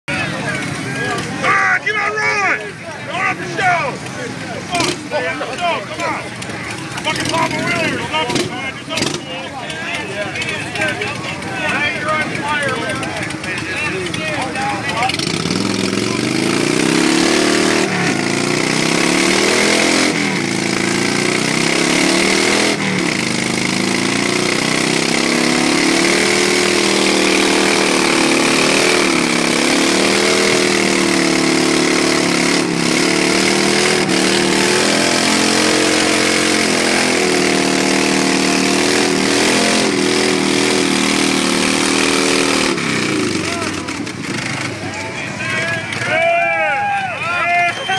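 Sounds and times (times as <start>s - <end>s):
engines revving during burnouts: 0.0s - 47.9s.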